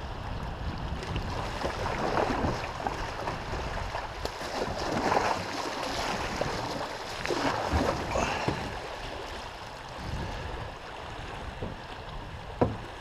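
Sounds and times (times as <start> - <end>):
water splashing: 0.9 - 13.0
river water rushing: 1.3 - 13.0.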